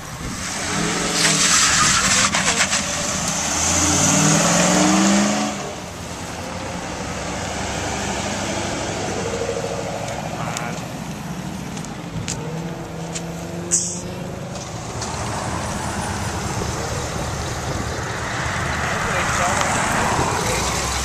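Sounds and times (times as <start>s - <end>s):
car engine revving hard: 0.0s - 10.7s, 12.4s - 21.0s
car engine rolling by: 0.0s - 21.0s.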